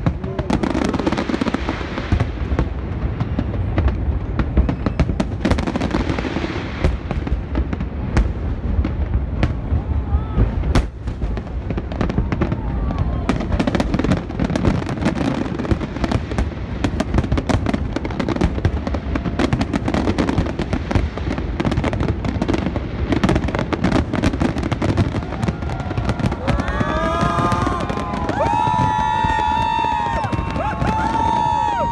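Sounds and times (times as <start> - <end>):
fireworks cracking and popping: 0.0 - 31.9.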